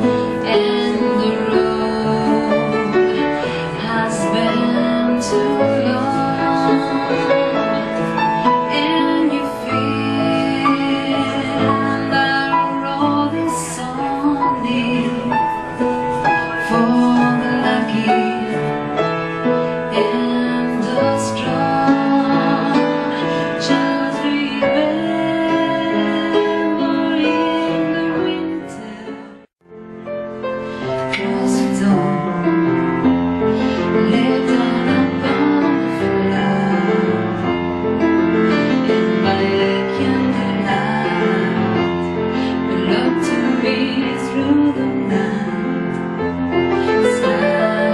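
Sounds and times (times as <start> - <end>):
woman singing: 0.0 - 29.5, 31.0 - 47.9
solo piano ballad: 0.0 - 47.9.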